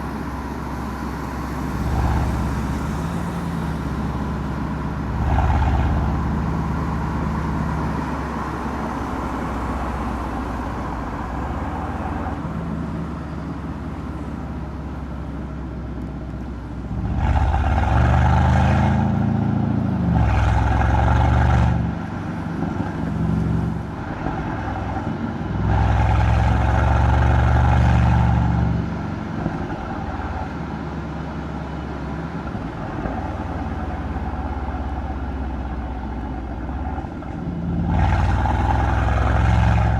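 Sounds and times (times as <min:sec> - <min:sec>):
car exhaust droning and revving: 0:00.0 - 0:39.9.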